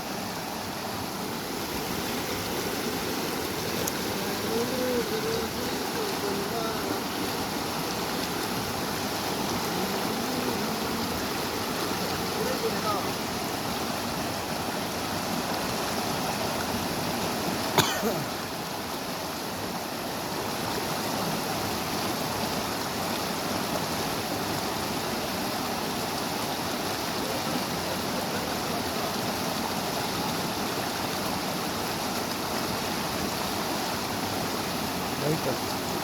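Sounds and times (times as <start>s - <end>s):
river running over rocks: 0.0s - 36.0s.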